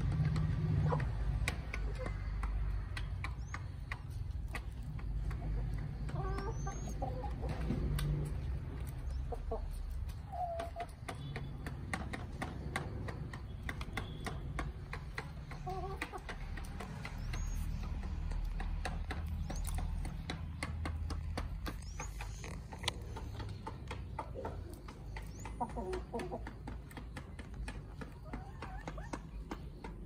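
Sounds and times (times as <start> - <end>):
chickens pecking plastic waterer: 0.0 - 30.0
chickens clucking softly: 0.1 - 30.0.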